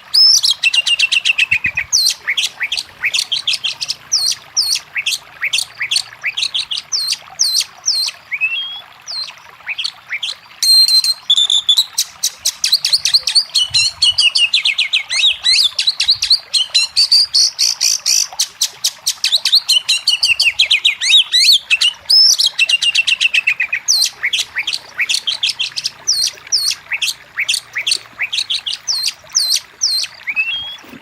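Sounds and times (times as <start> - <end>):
songbird chirps and whistles: 0.1 - 31.0.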